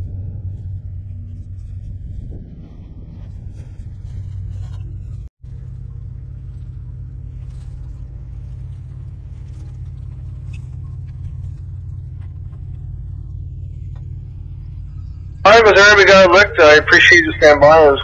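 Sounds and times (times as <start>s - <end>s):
distant ship diesel engines rumbling: 0.0s - 18.0s.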